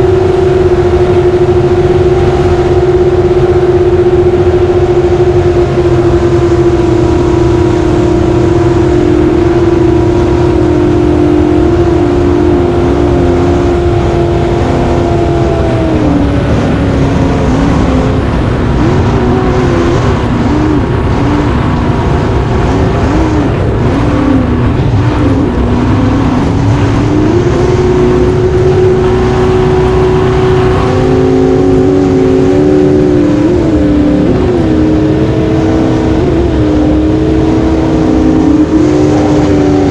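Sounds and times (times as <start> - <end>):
jet boat engines at high revs: 0.0 - 39.9.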